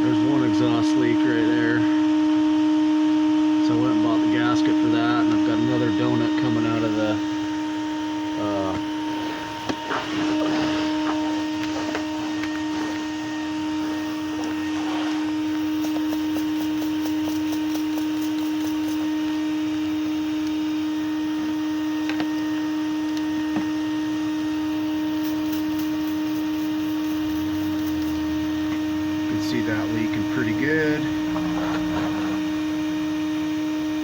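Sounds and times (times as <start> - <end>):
vacuum cleaner motor whining: 0.0 - 34.0.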